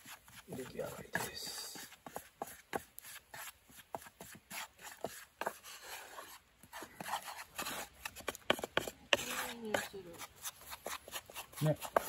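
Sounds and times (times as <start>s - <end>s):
wooden spatula scraping frying pan: 0.0s - 12.0s.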